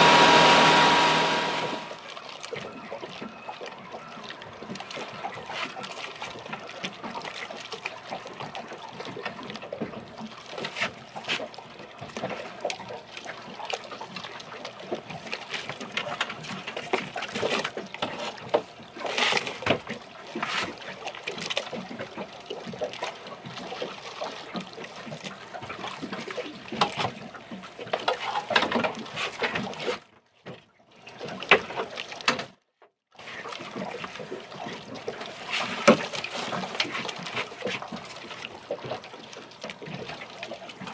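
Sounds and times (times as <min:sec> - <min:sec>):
water splashes: 0:00.0 - 0:32.5, 0:33.2 - 0:40.9
water lapping against boat hull: 0:00.0 - 0:40.9.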